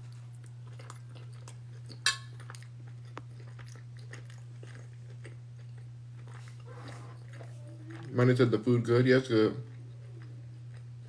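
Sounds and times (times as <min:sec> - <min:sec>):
chewing with mouth clicks: 0:00.0 - 0:08.3, 0:09.6 - 0:11.0
steady low hum: 0:00.0 - 0:11.0.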